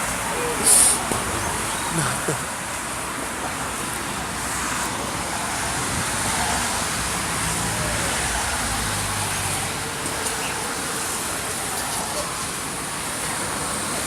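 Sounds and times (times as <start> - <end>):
passing traffic: 0.0 - 14.0.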